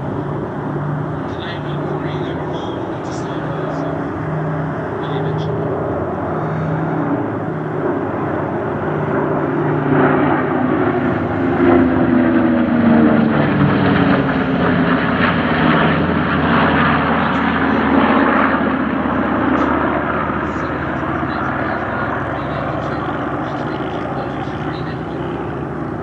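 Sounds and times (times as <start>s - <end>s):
propeller plane engine flying past: 0.0s - 26.0s.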